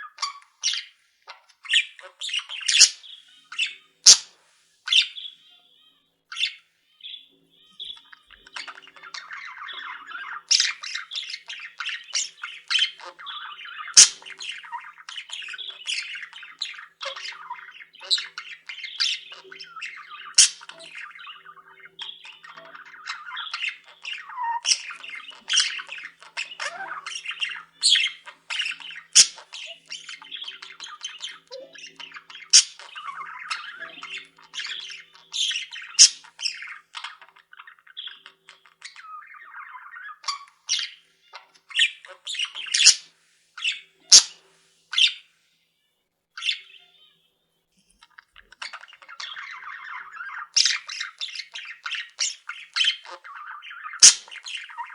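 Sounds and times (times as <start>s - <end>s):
budgerigars chattering: 0.0s - 45.3s, 46.4s - 47.1s, 47.9s - 54.9s
sharp bird squawks: 1.6s - 5.4s, 7.8s - 44.4s, 48.4s - 54.9s.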